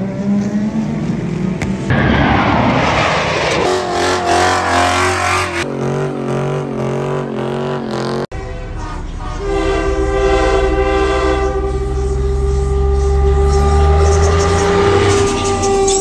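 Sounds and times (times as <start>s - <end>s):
engines revving hard: 0.0s - 8.3s, 11.1s - 16.0s
racing cars passing: 0.0s - 8.3s, 9.4s - 16.0s.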